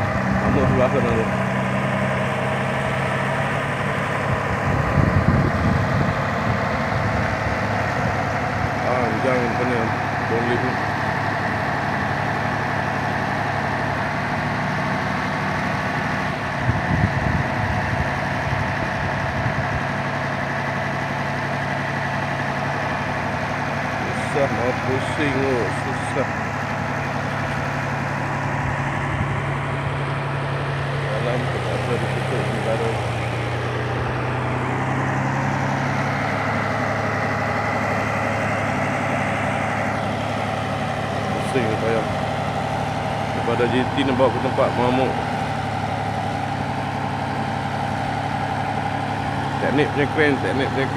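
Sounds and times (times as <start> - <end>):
crane engine idling: 0.0 - 50.9.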